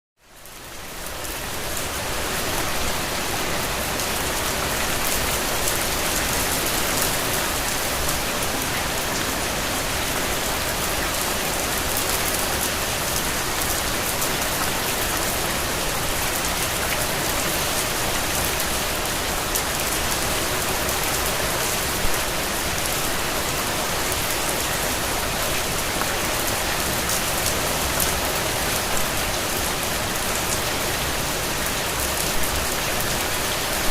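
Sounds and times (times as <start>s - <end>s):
rain falling: 0.3s - 33.9s.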